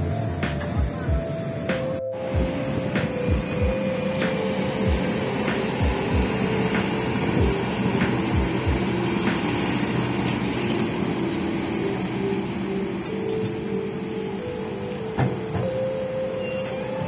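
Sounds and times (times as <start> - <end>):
diesel engine running: 2.2 - 17.0.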